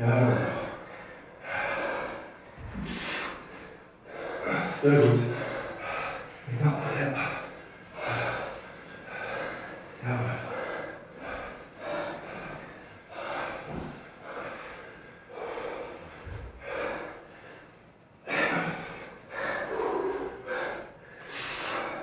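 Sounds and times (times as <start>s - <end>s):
heavy breathing and gasps: 0.0s - 22.0s.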